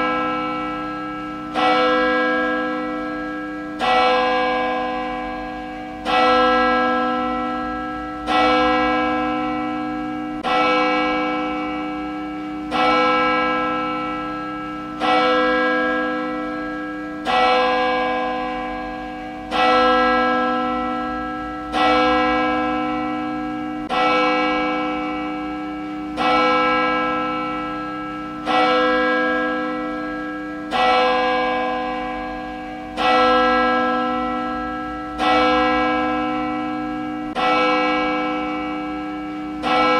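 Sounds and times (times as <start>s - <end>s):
church bell tolling: 0.0s - 39.9s.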